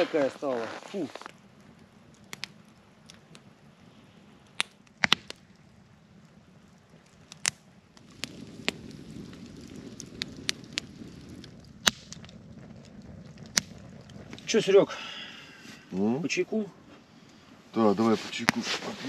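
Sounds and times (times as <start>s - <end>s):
sharp pops of fire: 0.0s - 16.0s, 17.2s - 19.0s
firewood crackling: 0.0s - 19.0s.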